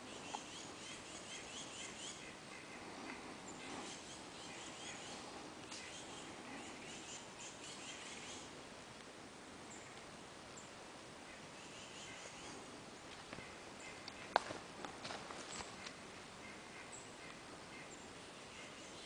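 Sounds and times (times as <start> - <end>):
low woodland hiss: 0.0 - 19.0.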